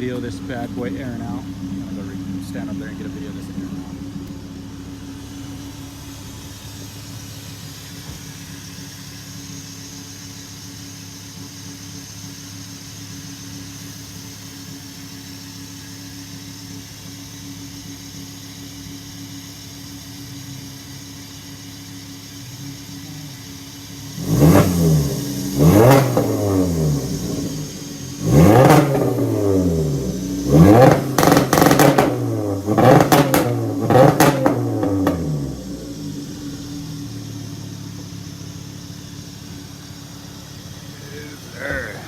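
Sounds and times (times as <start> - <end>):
car engine idling: 0.0 - 42.0
engine revving from throttle blips: 0.0 - 42.0.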